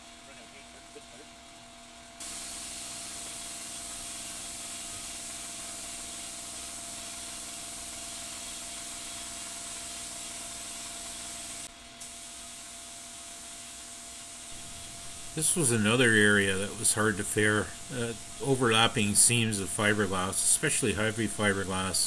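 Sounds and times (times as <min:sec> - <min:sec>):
paint spray gun hissing: 0:02.2 - 0:22.0.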